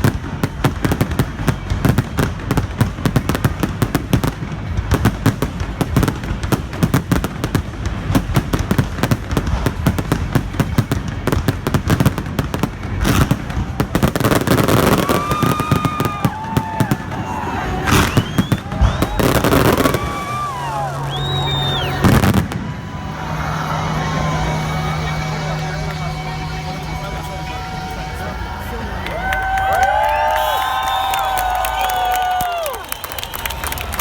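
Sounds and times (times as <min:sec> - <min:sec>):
fireworks crackling: 0:00.0 - 0:34.0
fireworks whistling: 0:00.0 - 0:34.0.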